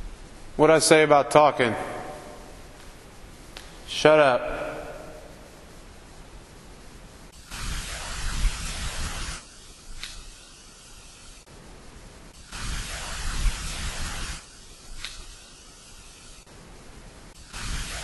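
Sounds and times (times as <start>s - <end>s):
bursts of hiss and static: 0.0s - 18.0s.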